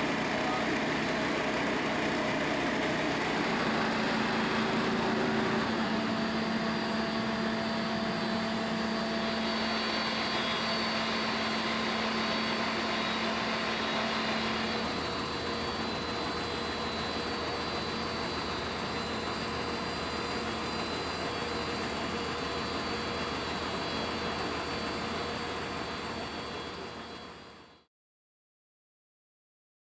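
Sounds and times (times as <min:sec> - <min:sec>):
fire engine machine drone: 0:00.0 - 0:27.9.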